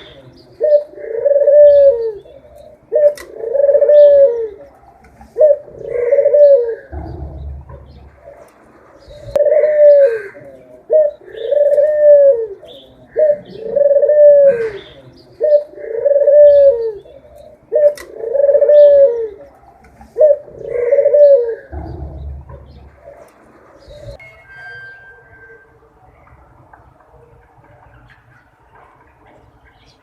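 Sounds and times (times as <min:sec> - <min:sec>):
dove cooing: 0:00.0 - 0:24.2
small birds chirping: 0:00.0 - 0:24.2.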